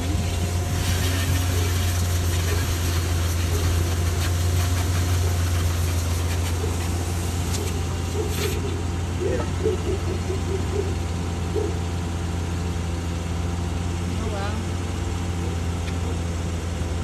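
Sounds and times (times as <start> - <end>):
carpet cleaning machine running: 0.0 - 17.0.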